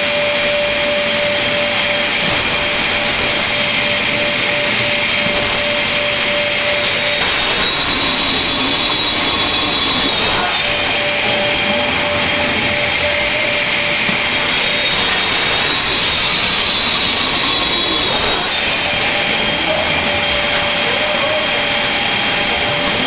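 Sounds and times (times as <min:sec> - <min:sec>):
board-cutting machine running: 0:00.0 - 0:23.0
higher machine whine: 0:00.0 - 0:23.0
machine whine: 0:00.0 - 0:23.0.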